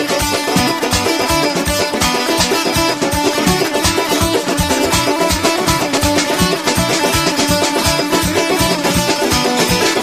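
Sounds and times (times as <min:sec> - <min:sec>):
quick steady beat: 0:00.0 - 0:10.0
saz playing fast dance tune: 0:00.0 - 0:10.0.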